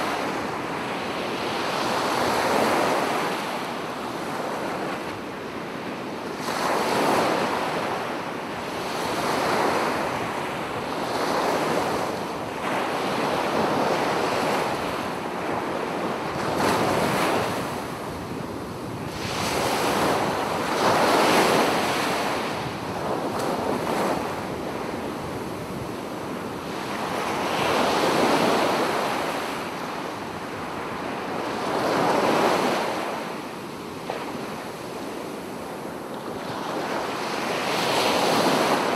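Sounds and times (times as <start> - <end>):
surf washing over sandy shore: 0.0 - 38.9
wind: 0.0 - 38.9.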